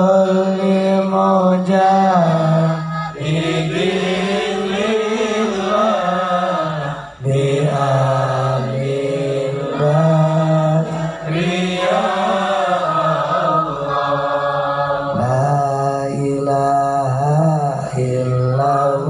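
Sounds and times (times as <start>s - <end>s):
amplified men chanting: 0.0s - 19.0s.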